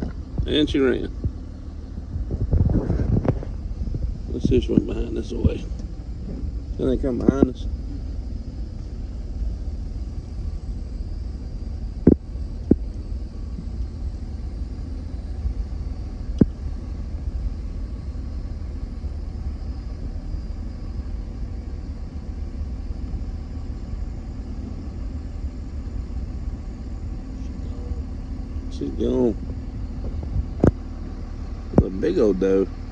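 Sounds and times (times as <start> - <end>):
vehicle low rumble: 0.0 - 32.9.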